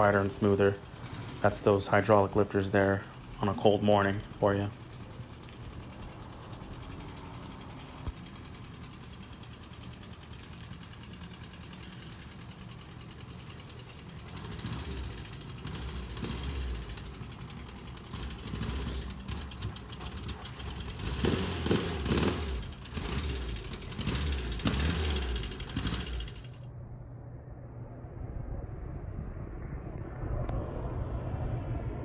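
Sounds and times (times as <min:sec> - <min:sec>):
air-cooled engine running: 0:00.0 - 0:26.8.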